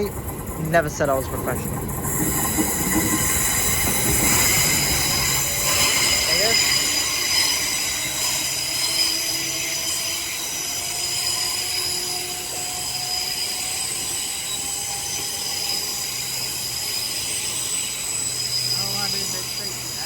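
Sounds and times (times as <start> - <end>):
train motor whine rising: 0.0 - 20.0
train wheel squeal: 1.8 - 20.0.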